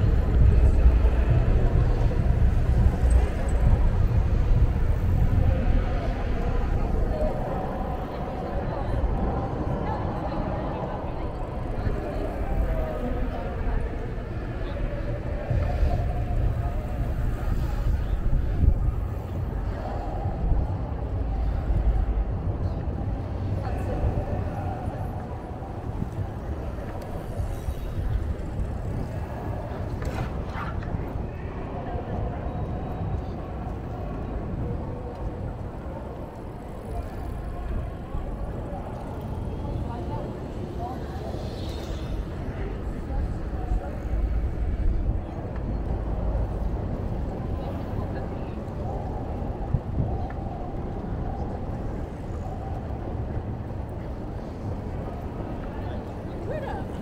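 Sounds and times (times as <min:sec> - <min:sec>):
street traffic: 0:00.0 - 0:57.0
wind on microphone: 0:00.0 - 0:57.0.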